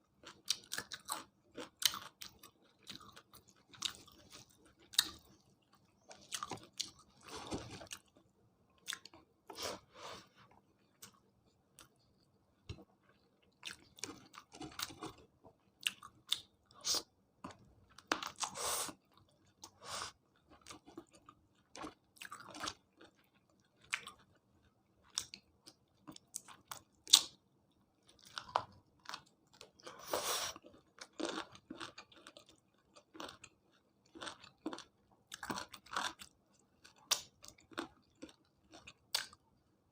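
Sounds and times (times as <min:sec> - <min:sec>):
person chewing crunchy food: 0:00.1 - 0:27.4, 0:28.0 - 0:39.5.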